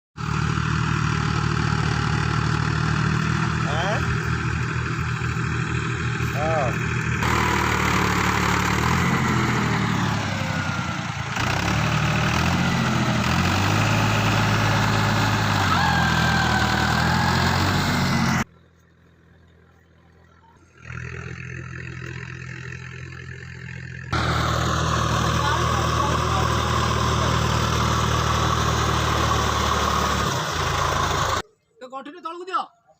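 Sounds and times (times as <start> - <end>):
tractor engine revving: 0.2 - 31.4.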